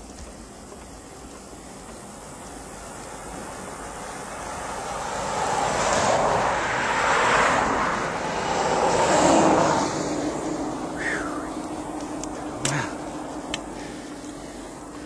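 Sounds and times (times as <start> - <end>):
vehicles passing on highway: 0.0 - 15.0.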